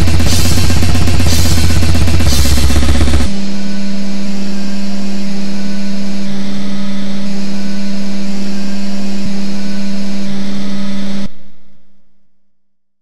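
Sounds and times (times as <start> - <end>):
dense distorted noise: 0.0 - 11.3
steady low drone: 0.0 - 12.2.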